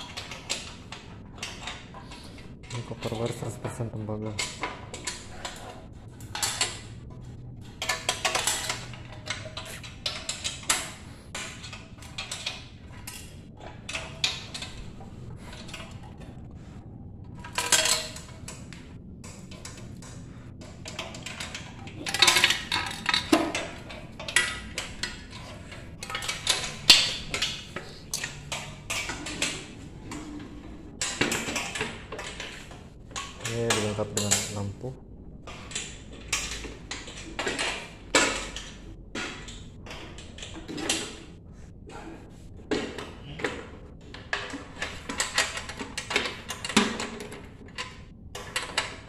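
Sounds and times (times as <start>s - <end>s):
metal parts clinking and rattling: 0.0s - 49.0s.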